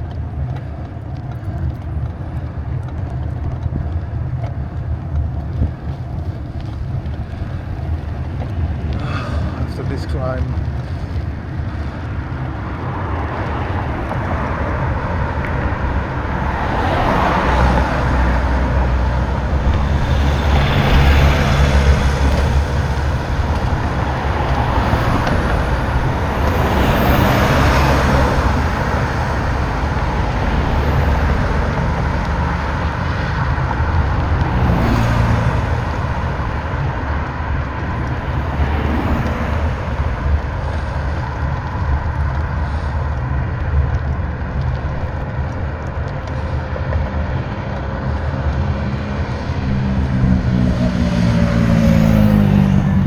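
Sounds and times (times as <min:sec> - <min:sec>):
bicycle rattling over rough road: 0:00.0 - 0:53.0.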